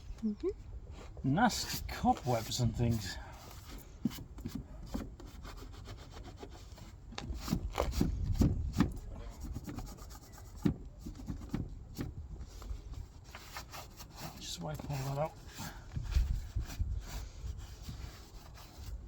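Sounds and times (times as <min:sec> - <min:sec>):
rubbing strokes: 0:01.5 - 0:08.1, 0:08.7 - 0:19.0.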